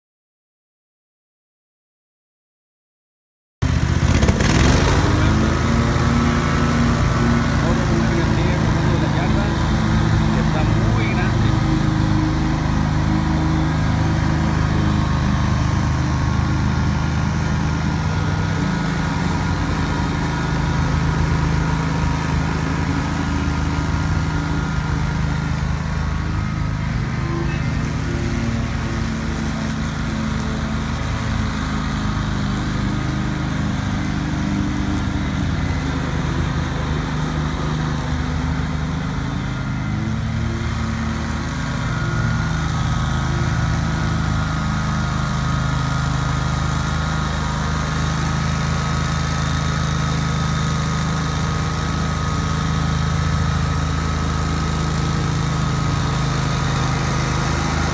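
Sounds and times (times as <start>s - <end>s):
mower blades cutting grass: 3.6s - 57.9s
mower engine at full throttle: 3.6s - 57.9s.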